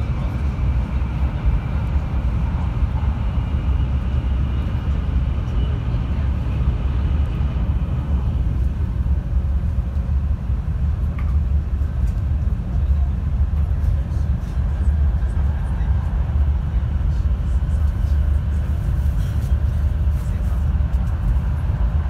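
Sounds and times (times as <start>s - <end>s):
train cabin low rumble: 0.0s - 22.0s.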